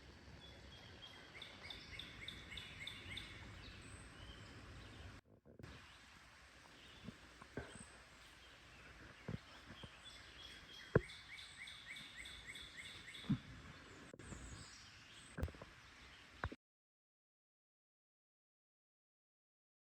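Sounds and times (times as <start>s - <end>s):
faint outdoor background noise: 0.0s - 16.6s
bird chirping: 0.4s - 16.5s.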